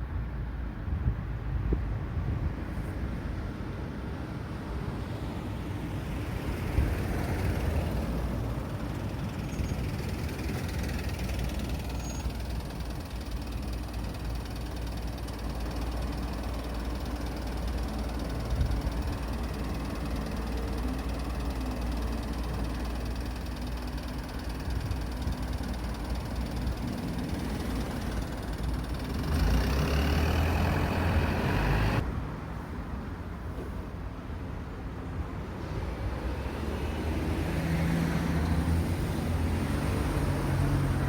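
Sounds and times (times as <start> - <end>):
vehicle engines running: 2.2 - 32.8, 36.5 - 41.0.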